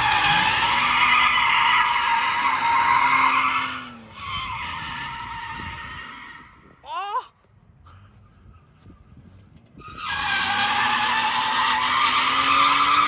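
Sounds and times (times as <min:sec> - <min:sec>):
car engine: 0:00.0 - 0:06.6, 0:07.5 - 0:13.0.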